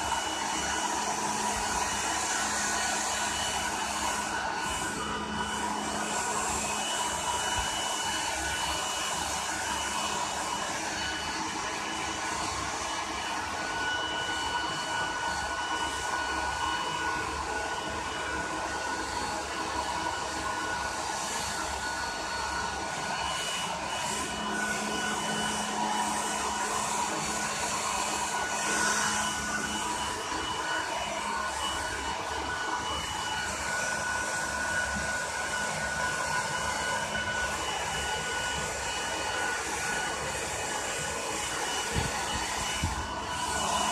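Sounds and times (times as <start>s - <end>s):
blow dryer running: 0.0s - 43.9s.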